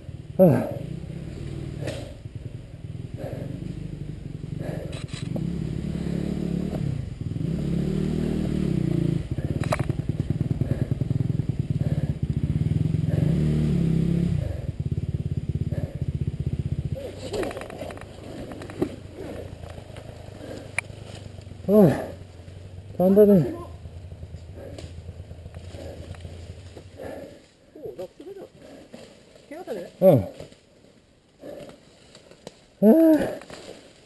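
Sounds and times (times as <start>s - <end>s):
dirt bike engine revving: 0.0s - 27.5s.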